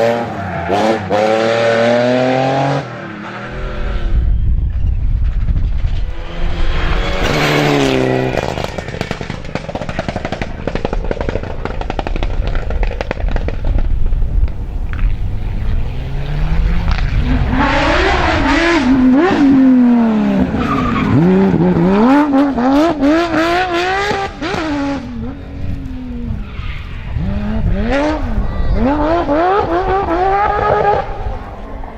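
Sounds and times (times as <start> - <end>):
rally car engine revving: 0.0 - 31.9.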